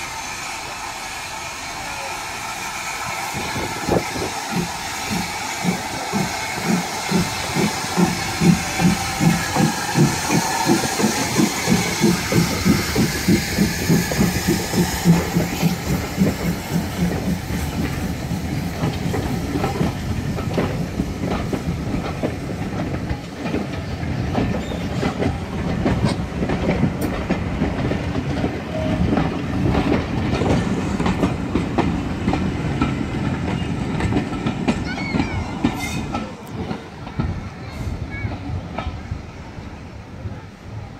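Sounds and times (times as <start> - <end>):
steady train rumble: 0.0 - 40.9
train wheels clicking over rail joints: 2.3 - 40.9.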